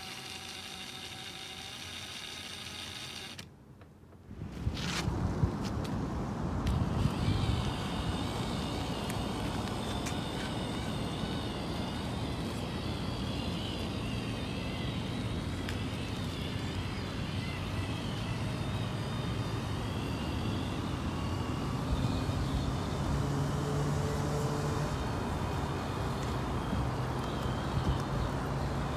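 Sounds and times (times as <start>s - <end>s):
toy car electric motor whining: 0.0s - 3.5s, 6.6s - 28.9s.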